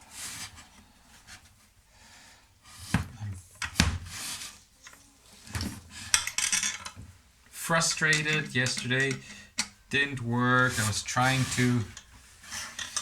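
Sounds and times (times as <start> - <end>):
light rubbing and shuffling: 0.0 - 13.0.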